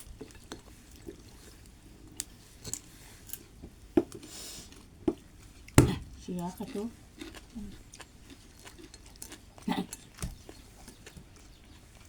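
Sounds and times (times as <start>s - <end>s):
chewing: 0.0s - 3.6s, 4.2s - 12.0s.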